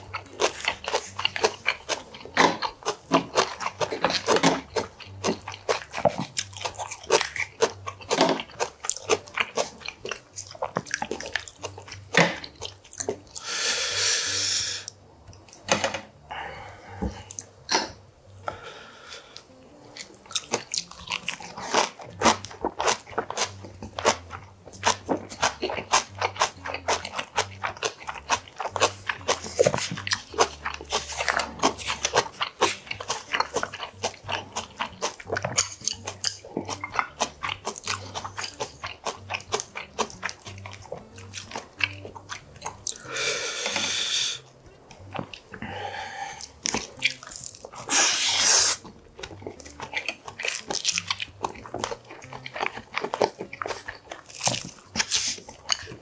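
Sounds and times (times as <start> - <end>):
crunchy biting and chewing: 0.0 - 13.6, 19.4 - 56.0.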